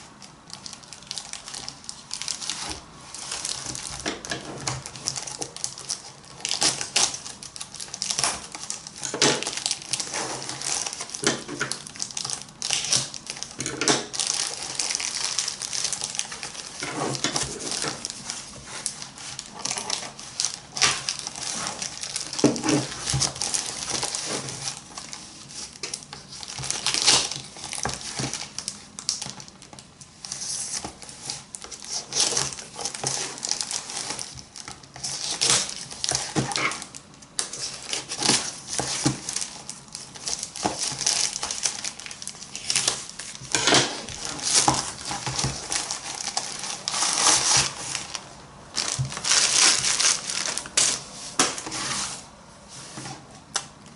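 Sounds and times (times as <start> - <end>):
packaging crinkling and rustling: 0.0 - 53.9.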